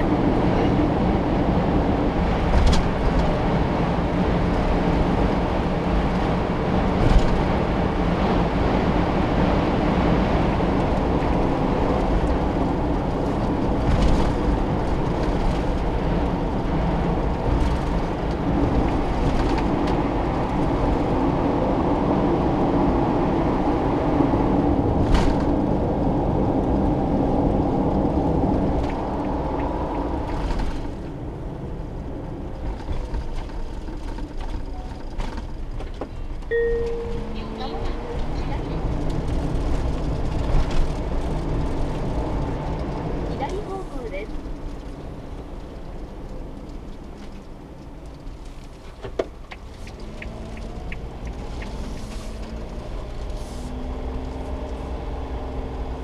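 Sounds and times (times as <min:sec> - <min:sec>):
van engine rumble: 0:00.0 - 0:56.0.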